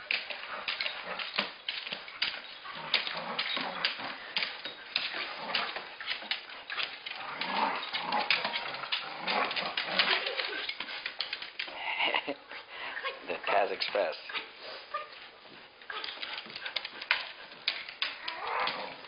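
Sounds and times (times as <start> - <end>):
dog making noises while playing: 0.0 - 19.0.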